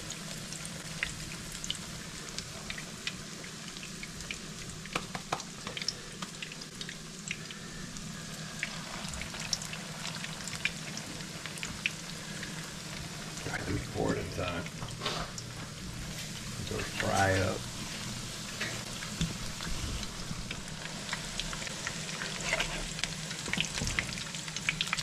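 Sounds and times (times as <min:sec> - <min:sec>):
oil popping and crackling: 0:00.0 - 0:07.6, 0:08.4 - 0:25.0
oil sizzling in a pan: 0:00.0 - 0:25.0.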